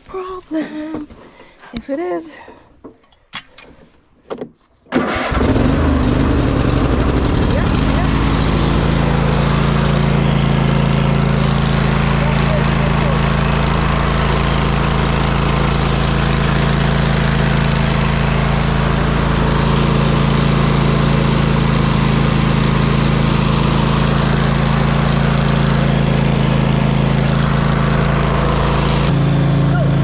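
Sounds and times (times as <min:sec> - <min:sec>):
lawn mower engine running: 0:04.9 - 0:30.0.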